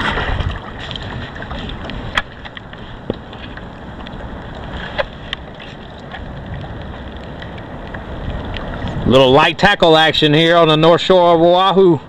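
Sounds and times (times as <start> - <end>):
wind noise: 0.0 - 10.8
water noise: 0.0 - 12.0.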